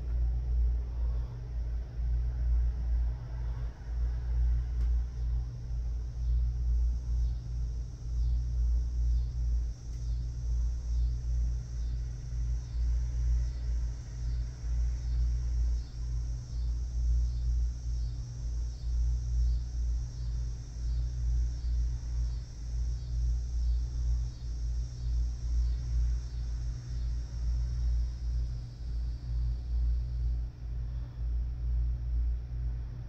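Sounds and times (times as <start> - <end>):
insects chirring: 4.0 - 31.2.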